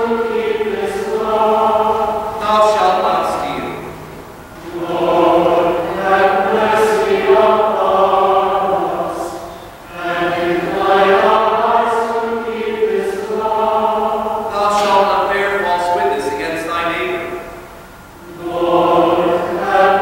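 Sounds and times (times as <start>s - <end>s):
choir and congregation chanting: 0.0s - 20.0s.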